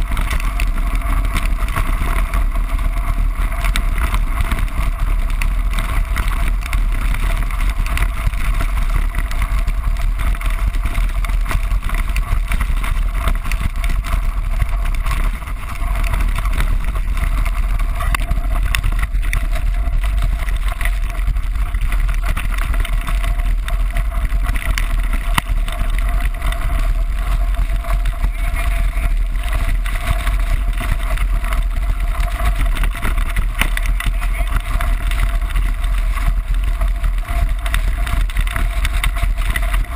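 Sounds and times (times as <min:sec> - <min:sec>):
bike frame rattling: 0:00.0 - 0:39.9
tyres crunching over gravel: 0:00.0 - 0:39.9
wind buffeting microphone: 0:00.0 - 0:39.9.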